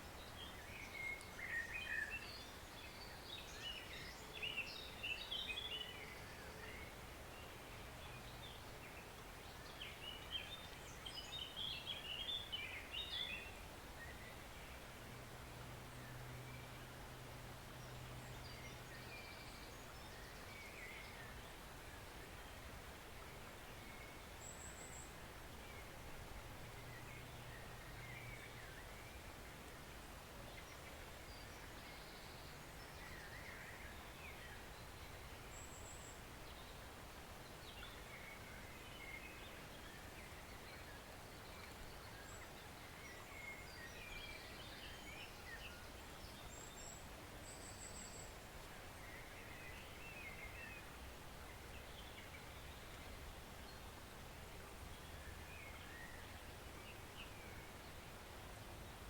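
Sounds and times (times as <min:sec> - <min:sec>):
forest stream rushing: 0:00.0 - 0:59.0.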